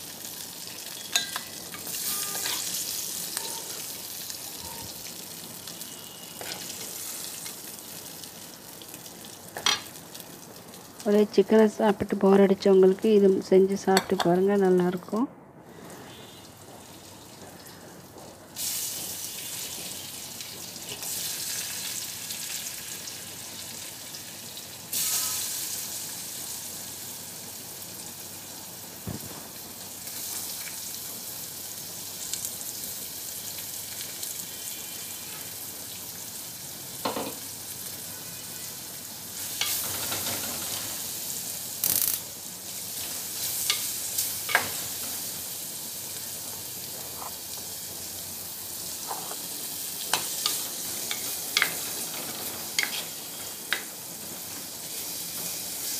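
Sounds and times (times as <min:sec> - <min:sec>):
onions sizzling in hot oil: 0:00.0 - 0:55.9.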